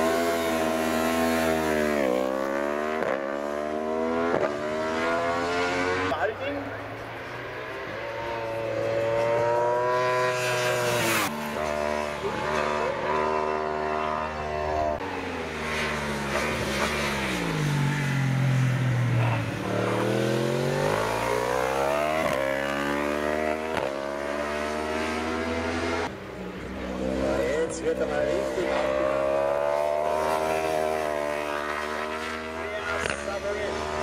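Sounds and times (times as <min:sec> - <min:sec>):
motorbike engine at full throttle: 0:00.0 - 0:07.1, 0:08.0 - 0:34.0.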